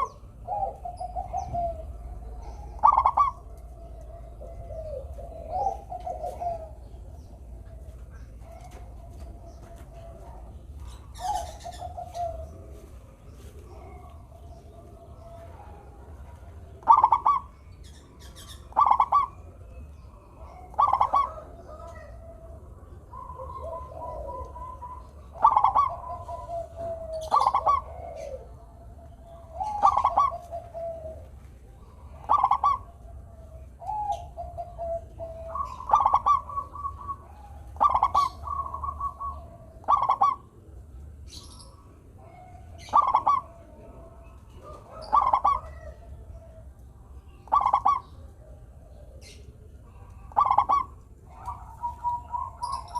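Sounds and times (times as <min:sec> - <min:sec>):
doves cooing: 0:00.0 - 0:52.9.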